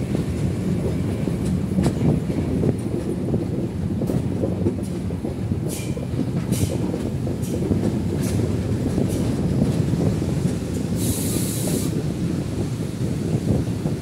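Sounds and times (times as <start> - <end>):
heavy rumble of train wheels: 0.0 - 14.0.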